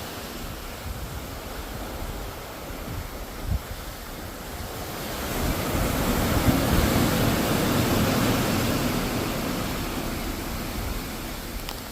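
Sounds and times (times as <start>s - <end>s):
ocean waves washing: 0.0s - 11.9s.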